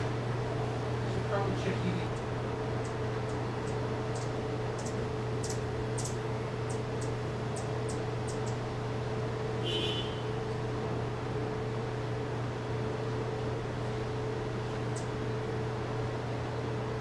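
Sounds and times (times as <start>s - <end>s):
steady low hum: 0.0s - 17.0s
hummingbird chip notes: 1.2s - 17.0s.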